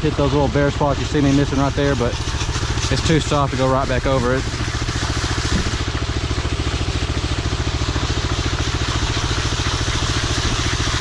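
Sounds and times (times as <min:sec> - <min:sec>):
power trowel engine running: 0:00.0 - 0:11.0.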